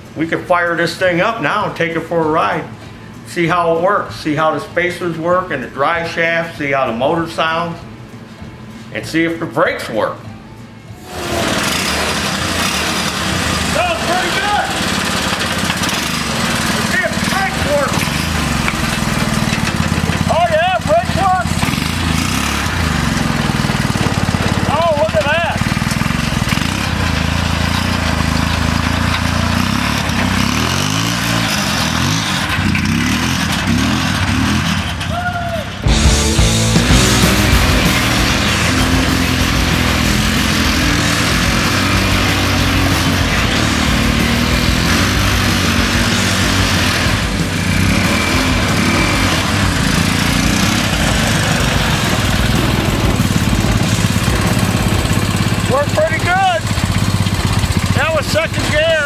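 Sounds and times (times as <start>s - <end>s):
small engine running: 11.0s - 35.1s, 35.8s - 59.0s.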